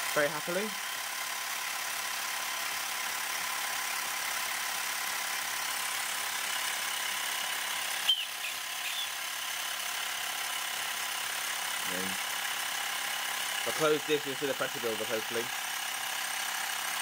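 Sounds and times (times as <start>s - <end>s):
electric air pump whining: 0.0s - 17.0s.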